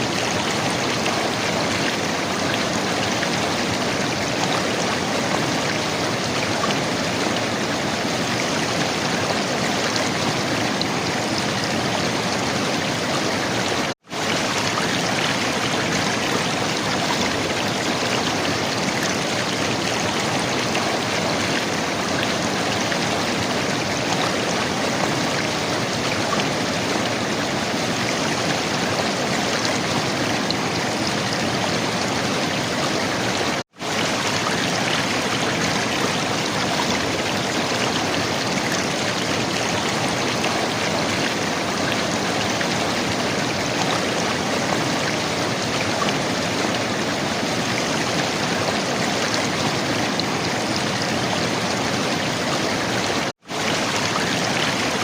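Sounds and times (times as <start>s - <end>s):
river water gurgling and rushing: 0.0s - 55.0s.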